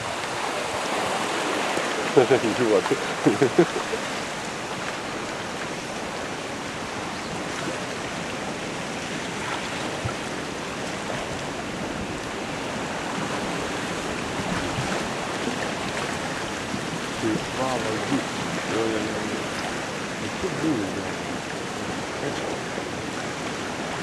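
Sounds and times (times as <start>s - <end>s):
ice floes rushing on water: 0.0s - 24.0s.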